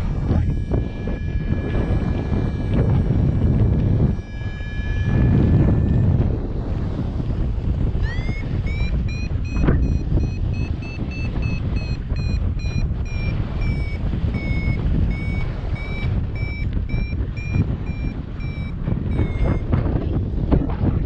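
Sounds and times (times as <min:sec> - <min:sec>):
variometer beeping: 0:00.0 - 0:06.6, 0:07.9 - 0:20.1
wind over microphone: 0:00.0 - 0:21.0.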